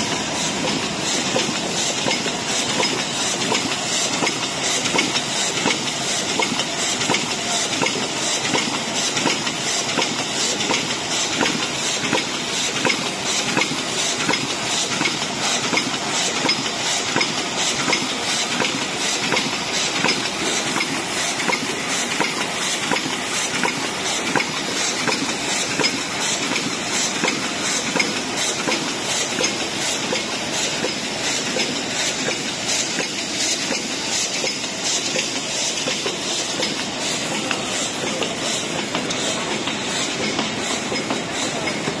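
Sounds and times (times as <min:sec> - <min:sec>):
machine mechanical clatter: 0:00.0 - 0:42.0.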